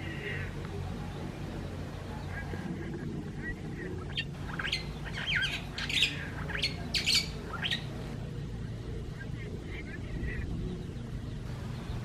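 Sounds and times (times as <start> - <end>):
birds squawking and chirping: 0.0 - 12.0.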